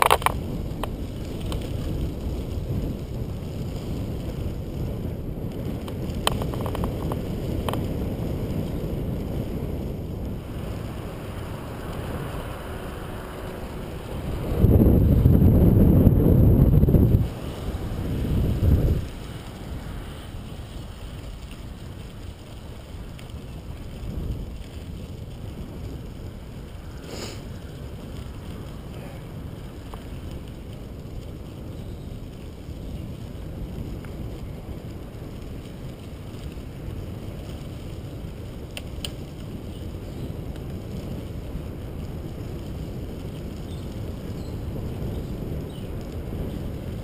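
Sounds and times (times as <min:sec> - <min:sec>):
bicycle tyres rolling on gravel: 0:00.0 - 0:47.0
wind buffeting microphone: 0:00.0 - 0:47.0.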